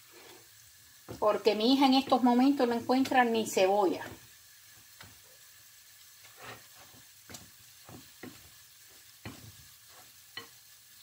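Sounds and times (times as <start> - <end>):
food frying with crackles: 0.0 - 11.0.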